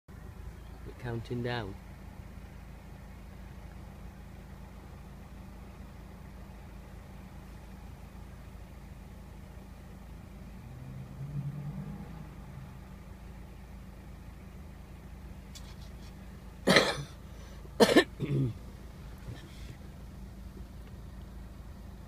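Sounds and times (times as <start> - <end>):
car engine idling: 0.1 - 22.0
low hum: 1.7 - 22.0.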